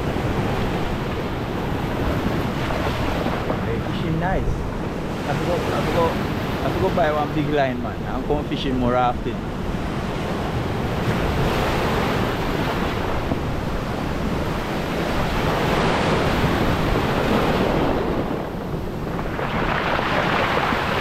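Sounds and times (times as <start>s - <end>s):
rough surf washing onto shore: 0.0s - 21.0s
wind buffeting microphone: 0.0s - 21.0s.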